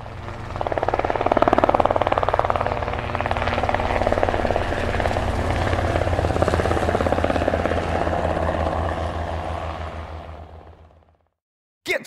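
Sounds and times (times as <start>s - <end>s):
engine hum: 0.0s - 11.3s
helicopter rotor blades chopping: 0.0s - 11.3s.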